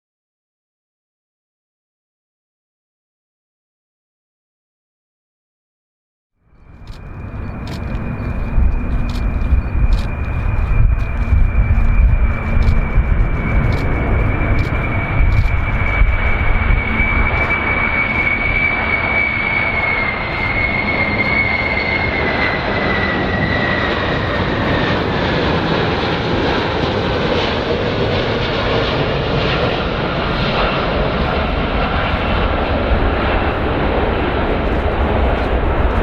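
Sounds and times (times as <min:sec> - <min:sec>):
jet engines whining: 0:06.5 - 0:36.0.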